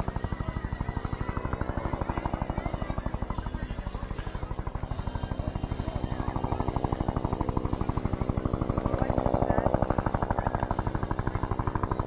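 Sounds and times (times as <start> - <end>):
helicopter engine drone: 0.0 - 12.0
helicopter rotor chopping: 0.0 - 12.0.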